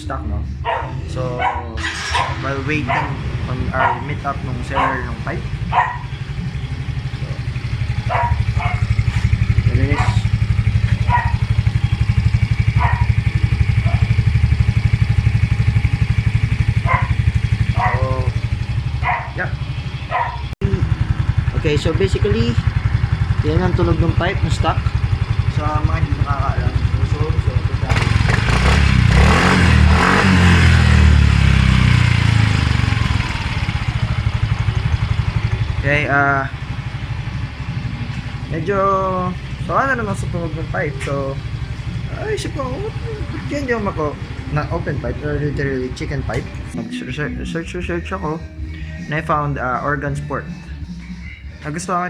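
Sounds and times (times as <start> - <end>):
scooter engine idling: 0.0 - 52.0.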